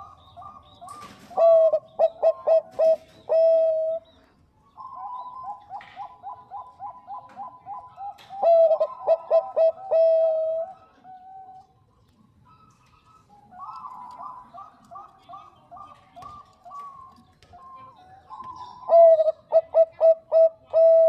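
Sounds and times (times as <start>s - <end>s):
dove cooing: 0.0s - 11.8s, 12.5s - 21.0s.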